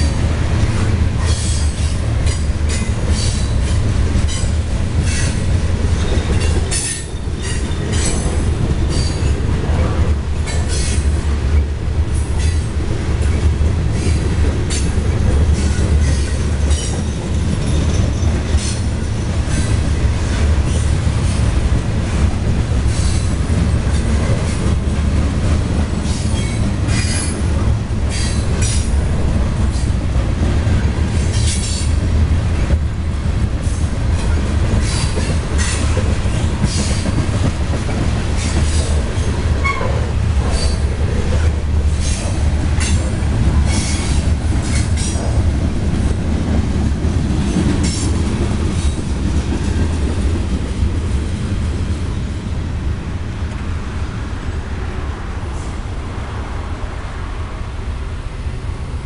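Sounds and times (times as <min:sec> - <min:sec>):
wheels clicking over rail joints: 0:00.0 - 0:52.1
train wheels rumbling on rail: 0:00.0 - 0:59.0.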